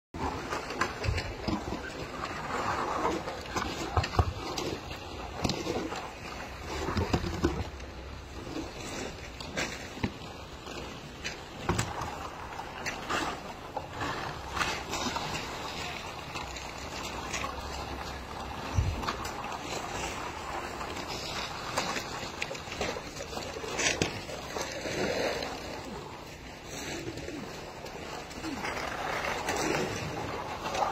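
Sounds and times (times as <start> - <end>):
snow shovels scraping pavement: 0.2 - 30.9.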